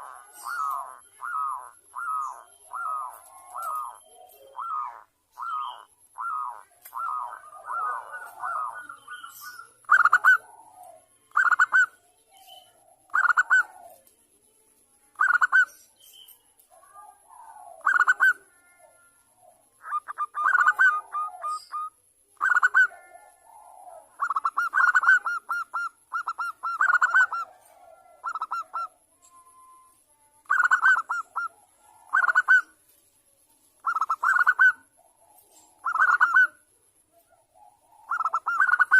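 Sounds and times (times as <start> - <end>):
doves cooing: 0.0 - 14.1, 16.7 - 29.8, 30.4 - 32.8, 33.8 - 38.9.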